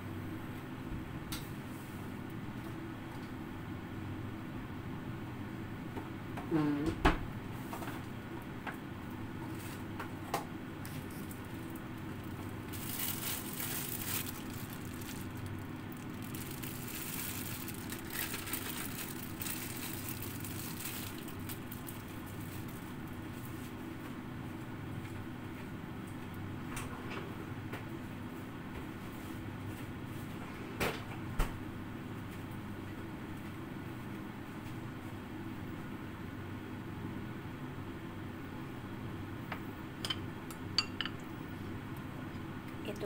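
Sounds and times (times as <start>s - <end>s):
gas stove hum: 7.0s - 43.0s.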